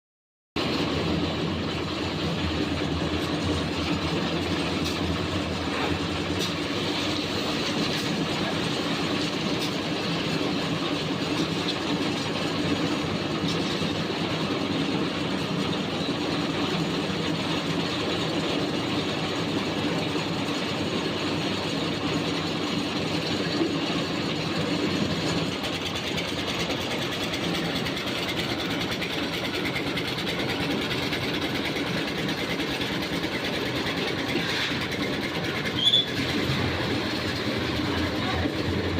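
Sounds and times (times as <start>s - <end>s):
concrete mixer running: 0.6s - 38.9s.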